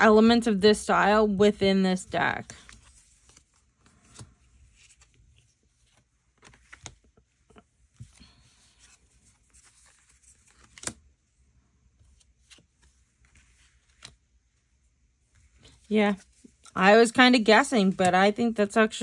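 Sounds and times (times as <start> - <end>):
cards rustling on cloth: 2.2 - 18.4.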